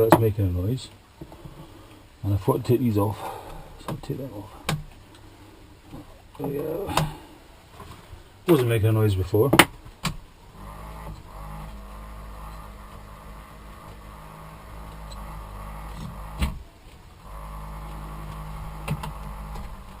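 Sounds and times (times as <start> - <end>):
fan humming buzz: 0.0 - 20.0.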